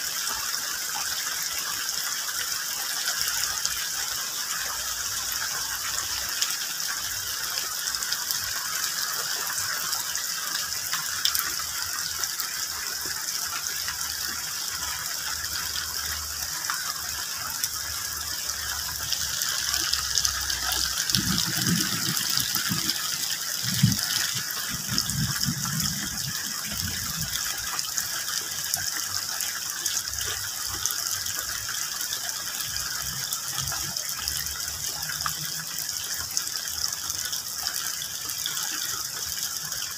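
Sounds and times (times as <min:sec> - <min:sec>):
rain falling on leaves: 0:01.7 - 0:39.7.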